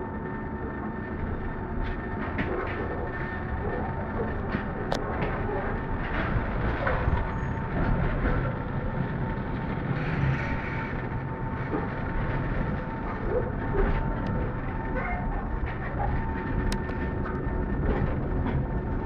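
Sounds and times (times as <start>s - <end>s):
thin steady whine: 0.0s - 19.0s
tram wheels rumbling on rails: 0.0s - 19.0s.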